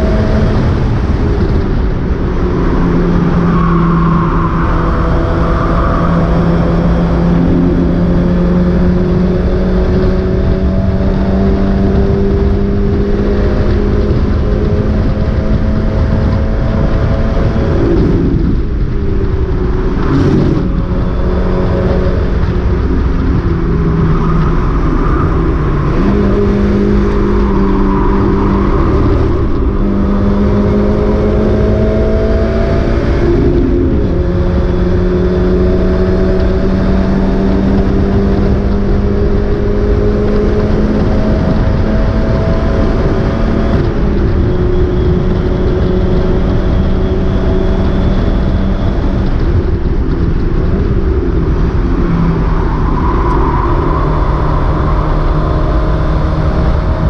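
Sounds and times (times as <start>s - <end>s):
race car engine under load: 0.0s - 57.0s.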